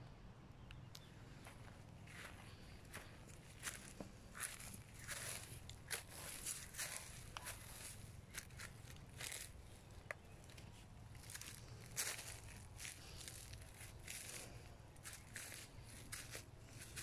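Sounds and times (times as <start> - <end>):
footsteps on dry leaves and stones: 1.3 - 17.0.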